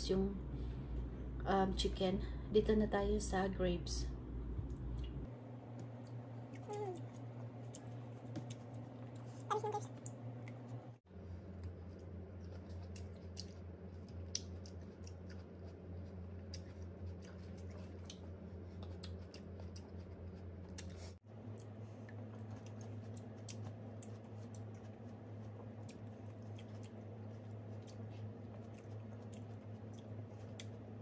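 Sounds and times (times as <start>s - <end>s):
steady low hum: 0.0s - 31.0s
grapes being chewed: 5.8s - 31.0s.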